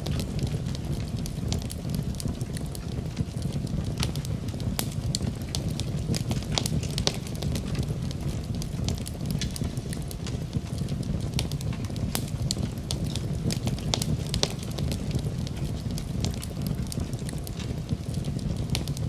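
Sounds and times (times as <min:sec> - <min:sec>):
fire flames rumbling: 0:00.0 - 0:19.0
wood fire crackling and popping: 0:00.0 - 0:19.0.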